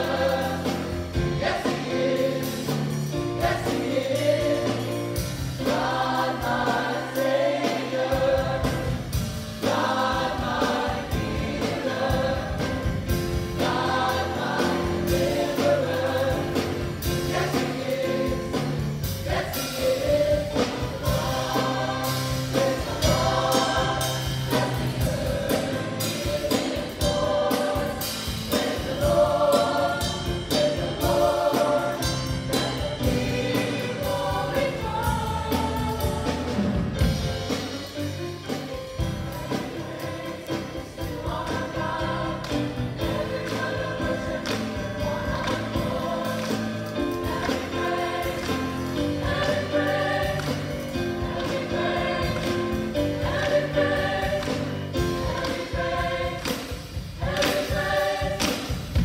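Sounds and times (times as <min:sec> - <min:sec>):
drums: 0:00.0 - 0:59.0
gospel choir singing in harmony: 0:00.0 - 0:59.0.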